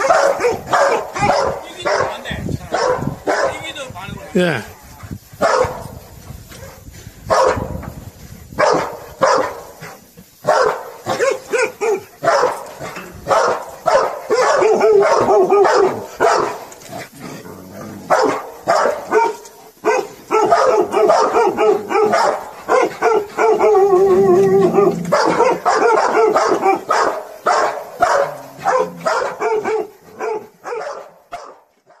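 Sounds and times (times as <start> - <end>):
dogs barking: 0.0 - 3.7, 5.4 - 7.8, 8.6 - 16.8, 18.0 - 32.0.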